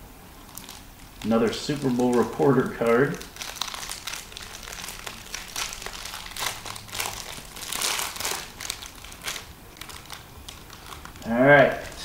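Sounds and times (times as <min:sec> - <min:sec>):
wrapper crinkling and tearing: 0:00.4 - 0:12.0.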